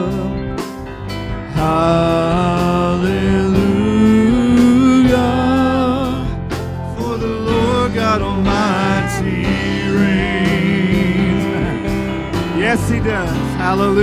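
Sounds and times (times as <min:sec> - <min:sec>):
voices singing slow melody: 0:00.0 - 0:00.8, 0:01.4 - 0:14.0
worship band playing: 0:00.0 - 0:14.0.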